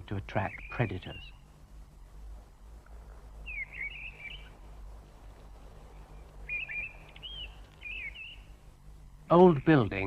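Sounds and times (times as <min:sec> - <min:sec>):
songbird singing: 0:00.0 - 0:10.0.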